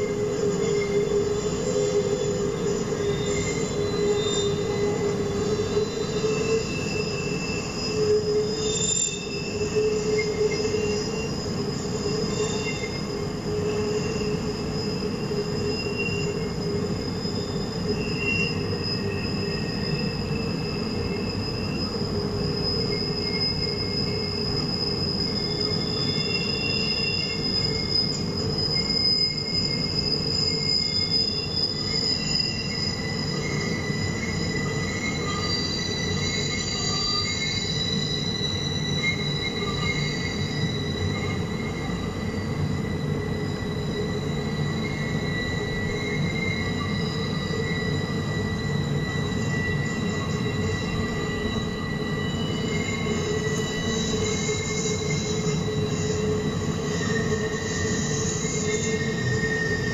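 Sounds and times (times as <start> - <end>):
wheel flange squeal: 0.0 - 59.9.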